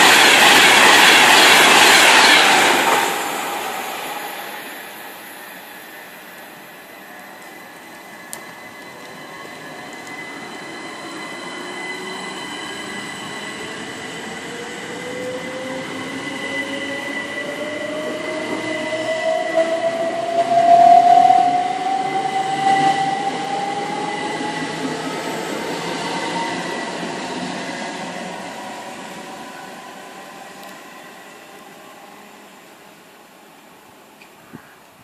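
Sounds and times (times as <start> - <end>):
train passing: 0.0 - 34.2.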